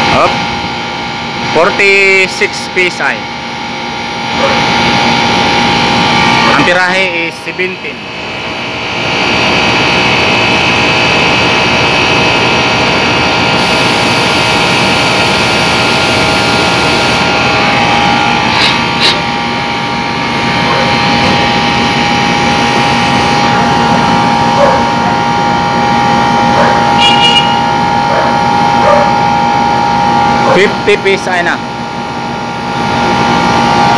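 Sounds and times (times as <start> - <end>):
air conditioner machine hum: 0.0 - 33.9.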